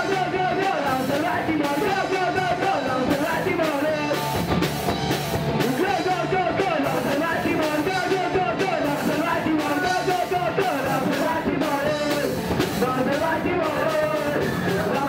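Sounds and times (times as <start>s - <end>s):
singer's vocals: 0.0s - 4.2s, 5.6s - 15.0s
punk rock band playing: 0.0s - 15.0s.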